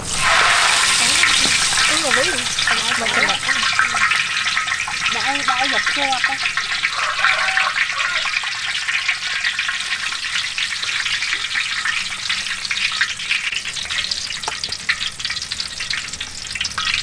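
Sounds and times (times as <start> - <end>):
oil sizzling in a wok: 0.0 - 17.0.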